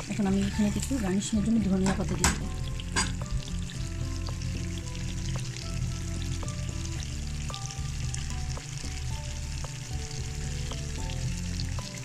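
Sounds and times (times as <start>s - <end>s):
curry sizzling in a frying pan: 0.0s - 12.0s
soft background music: 0.0s - 12.0s.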